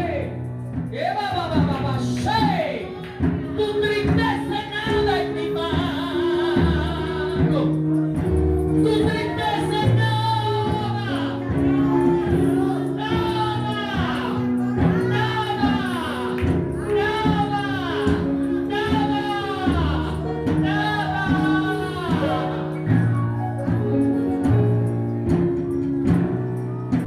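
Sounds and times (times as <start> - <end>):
person singing gospel music: 0.0 - 27.0.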